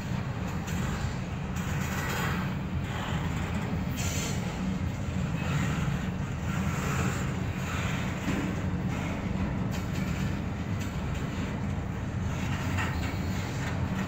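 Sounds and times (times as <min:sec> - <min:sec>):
freight train wheels rumbling on rail: 0:00.0 - 0:14.0
rattle and hiss of passing cars: 0:00.0 - 0:14.0.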